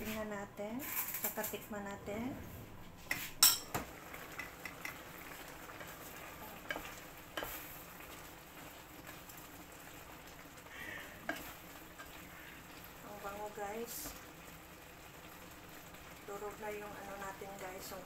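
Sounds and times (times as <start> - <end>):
sauce sizzling: 2.9 - 18.0.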